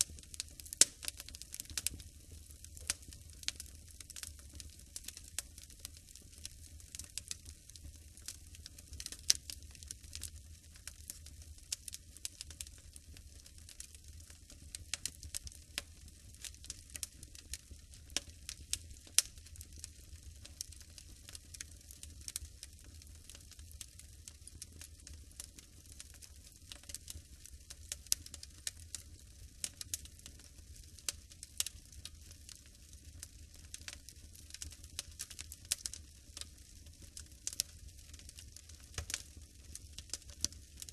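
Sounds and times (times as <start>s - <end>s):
log fire crackling: 0.0s - 40.9s.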